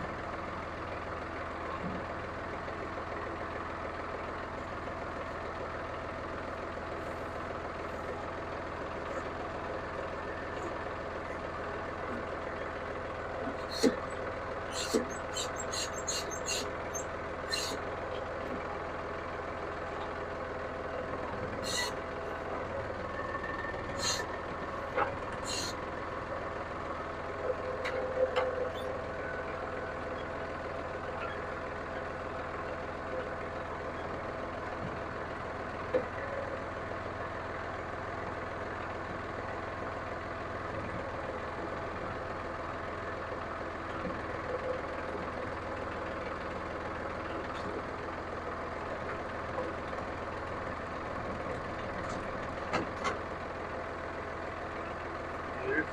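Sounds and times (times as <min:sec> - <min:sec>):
tractor diesel engine idling: 0:00.0 - 0:55.9.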